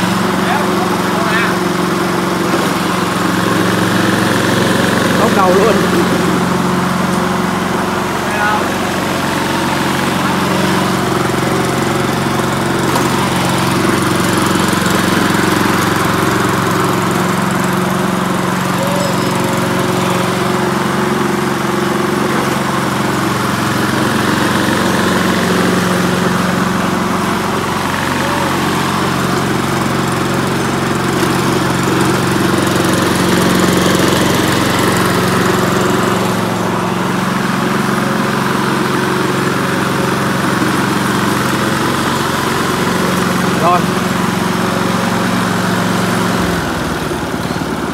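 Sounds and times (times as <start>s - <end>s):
lawn mower engine running: 0.0s - 47.9s.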